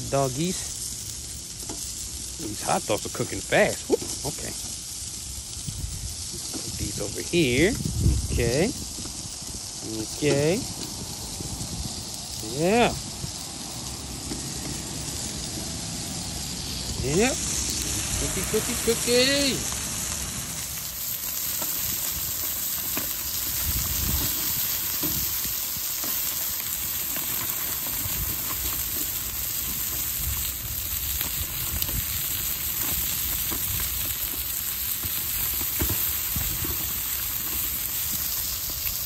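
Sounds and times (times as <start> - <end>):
meat sizzling on a grill: 0.0 - 39.0.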